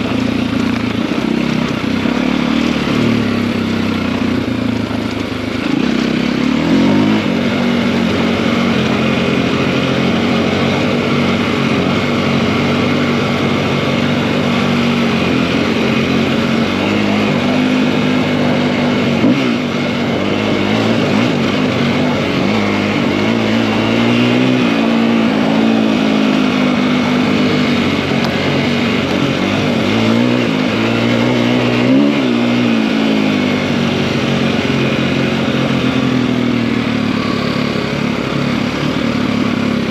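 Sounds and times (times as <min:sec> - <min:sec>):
motorbike engine cruising: 0:00.0 - 0:39.9.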